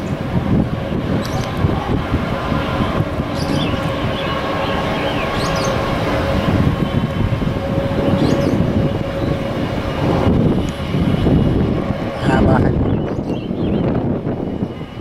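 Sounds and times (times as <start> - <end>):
jet engines rumbling and whining: 0.0 - 15.0.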